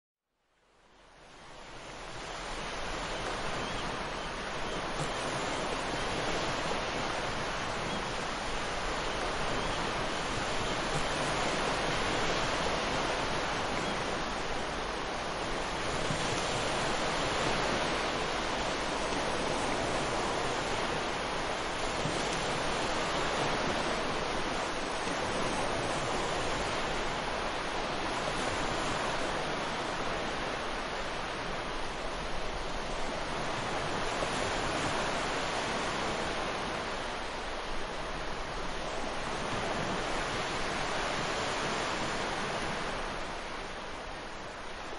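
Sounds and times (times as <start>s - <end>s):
ocean waves breaking: 1.4s - 44.9s.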